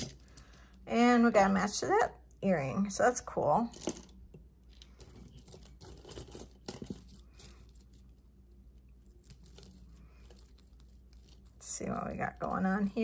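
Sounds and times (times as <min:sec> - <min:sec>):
jewelry clicking and rustling: 0:00.0 - 0:02.4, 0:03.6 - 0:13.0.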